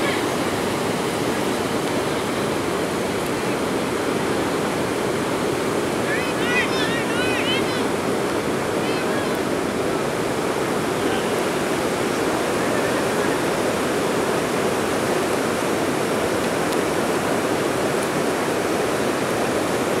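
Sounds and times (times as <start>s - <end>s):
river rapids rushing: 0.0s - 20.0s.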